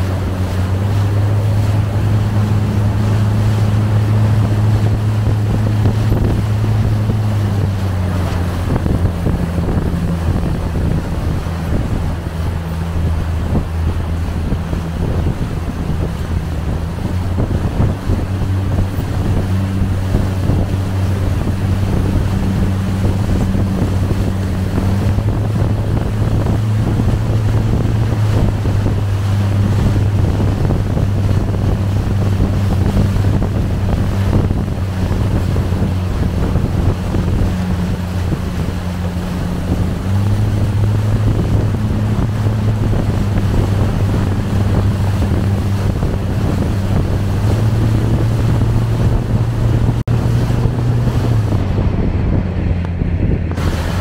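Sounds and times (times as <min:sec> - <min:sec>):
motorboat engine humming: 0:00.0 - 0:54.0
rushing water: 0:00.0 - 0:54.0
wind buffeting microphone: 0:00.0 - 0:54.0.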